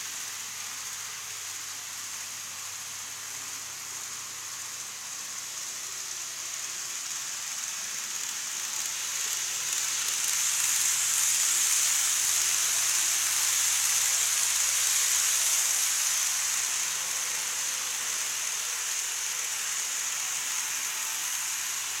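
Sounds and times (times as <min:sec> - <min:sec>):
model train hissing on track: 0:00.0 - 0:22.0.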